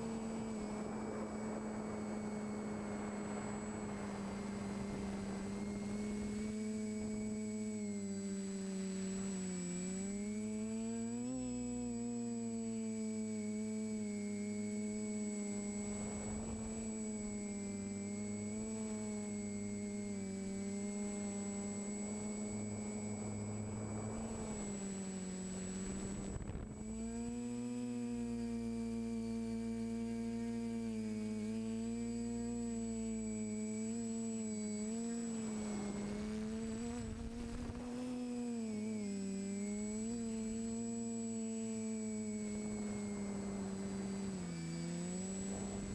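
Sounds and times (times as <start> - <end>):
drone motors and propellers humming: 0.0 - 45.9.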